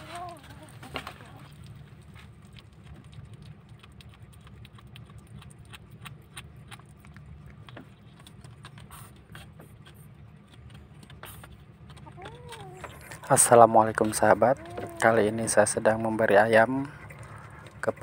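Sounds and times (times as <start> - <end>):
kitten chewing meat: 0.0 - 18.0
steady low hum: 0.0 - 18.0.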